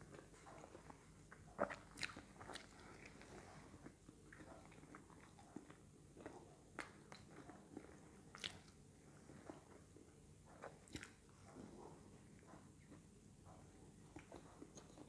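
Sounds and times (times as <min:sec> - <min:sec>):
chewing soft bread: 0:00.0 - 0:15.0.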